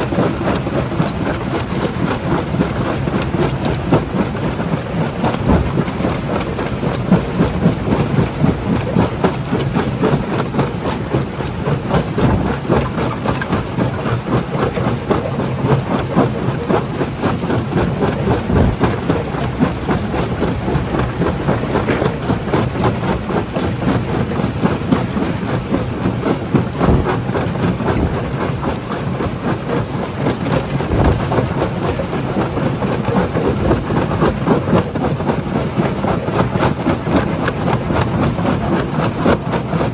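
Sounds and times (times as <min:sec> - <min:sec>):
jaw crusher rumbling: 0:00.0 - 0:39.9.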